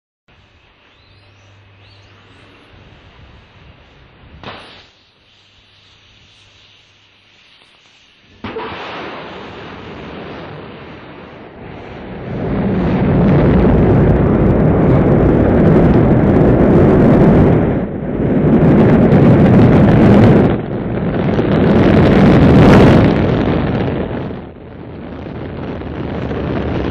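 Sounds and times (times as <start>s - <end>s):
rocket engines rumbling: 0.3s - 26.9s
rocket ignition burst: 2.6s - 26.9s.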